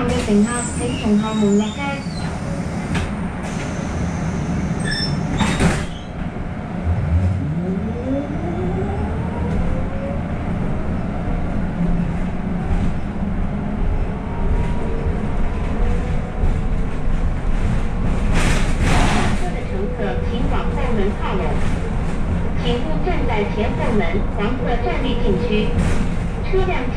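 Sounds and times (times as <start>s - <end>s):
bus engine rumbling: 0.0s - 26.9s.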